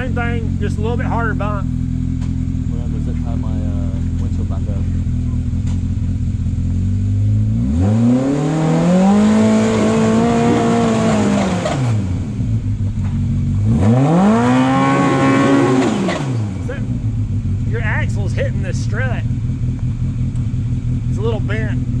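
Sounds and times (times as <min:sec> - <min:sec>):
buggy engine idling and revving: 0:00.0 - 0:22.0.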